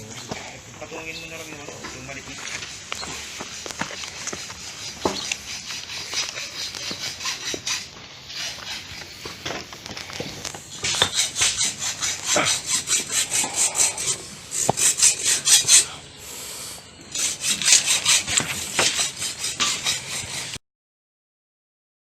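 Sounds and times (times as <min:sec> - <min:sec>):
hand saw cutting wood: 0:01.7 - 0:20.6.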